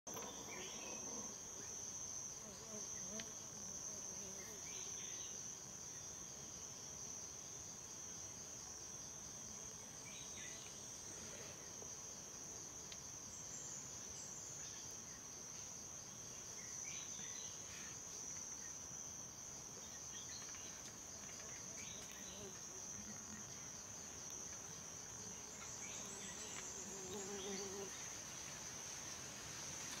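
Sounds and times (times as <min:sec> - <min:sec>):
insect chorus drone: 0:00.1 - 0:30.0.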